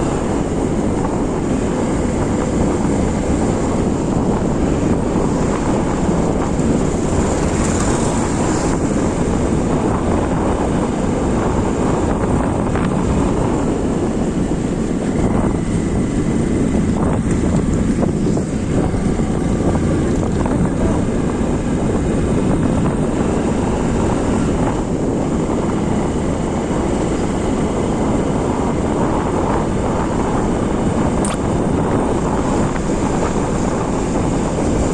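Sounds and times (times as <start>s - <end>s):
motorcycle engine: 0.0s - 34.9s
road noise: 0.0s - 34.9s
wind rushing over microphone: 0.0s - 34.9s.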